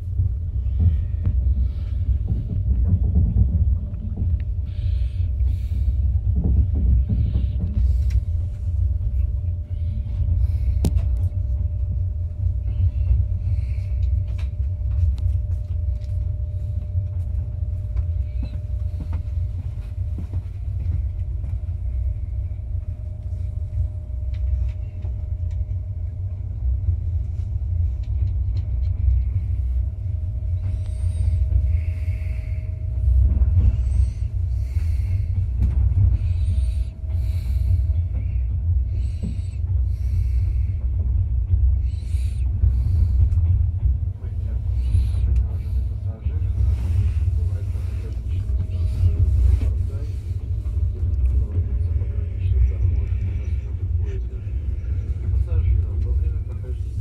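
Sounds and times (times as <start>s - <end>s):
faint steady whine: 0.0s - 57.0s
train rumble inside carriage: 0.0s - 57.0s.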